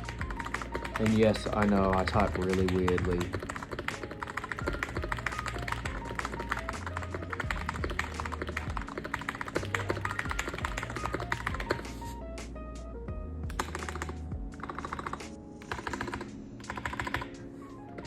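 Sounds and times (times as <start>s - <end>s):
mechanical keyboard typing: 0.0s - 12.0s, 13.5s - 17.4s
background music with bass: 0.0s - 15.6s.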